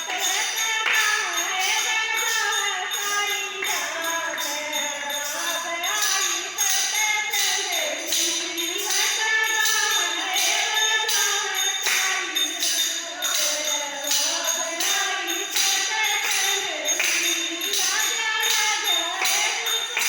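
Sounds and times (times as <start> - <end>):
person singing devotional song: 0.0 - 20.0
tambourine jingles beat: 0.0 - 20.0.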